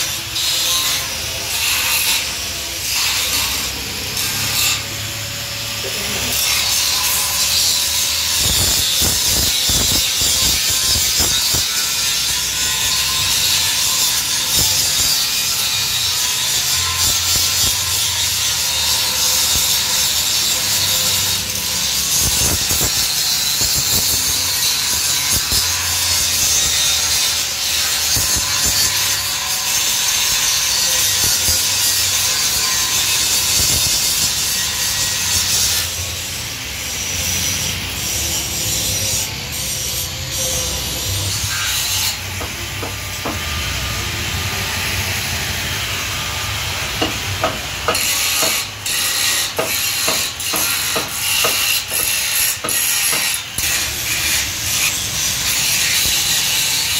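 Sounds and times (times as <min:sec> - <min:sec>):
angle grinder grinding metal: 0:00.0 - 0:56.9.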